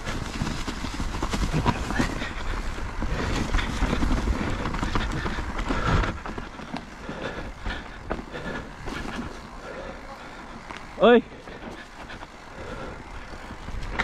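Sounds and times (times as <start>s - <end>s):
bike rattling over bumps: 0.0s - 14.0s
tyres on dirt and stones: 0.0s - 14.0s.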